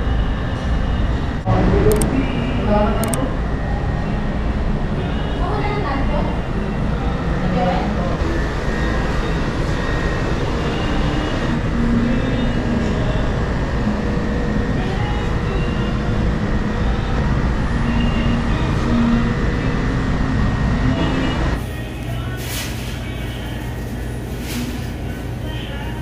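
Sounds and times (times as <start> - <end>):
low rumble and hum: 0.0 - 26.0
faint indistinct voices: 1.4 - 26.0.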